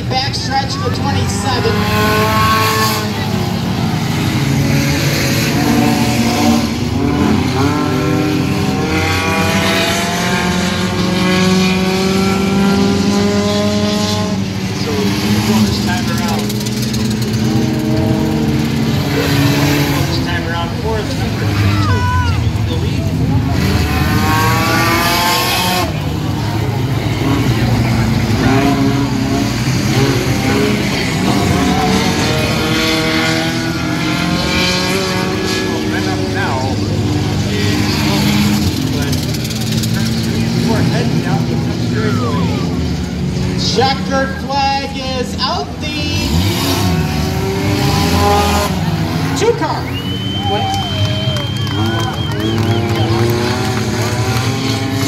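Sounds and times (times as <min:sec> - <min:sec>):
stock car engines revving: 0:00.0 - 0:55.0.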